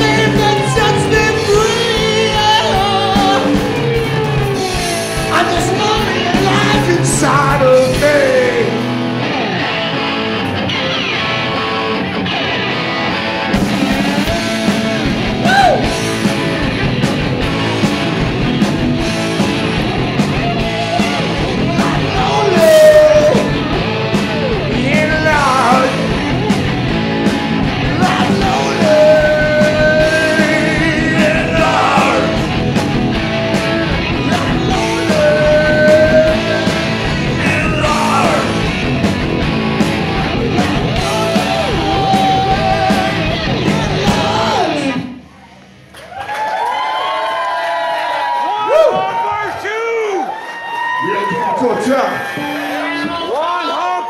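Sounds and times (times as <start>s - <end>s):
live rock band playing: 0.0s - 45.3s.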